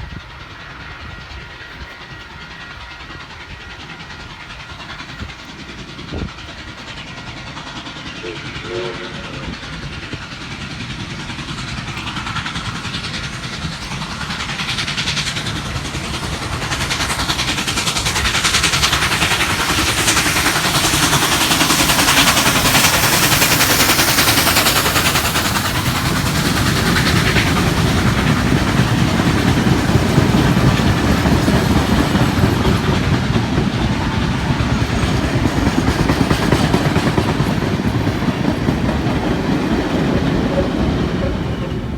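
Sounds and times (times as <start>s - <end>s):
train passing: 0.0s - 41.9s.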